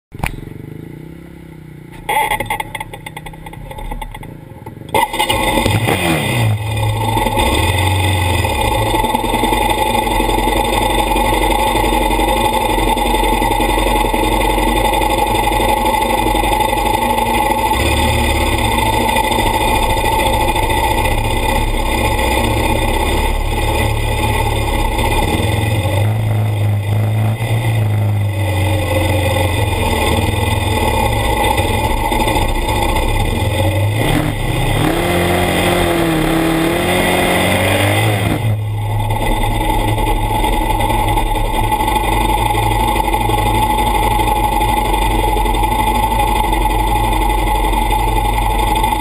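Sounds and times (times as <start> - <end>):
atv engine running: 0.1 - 49.0.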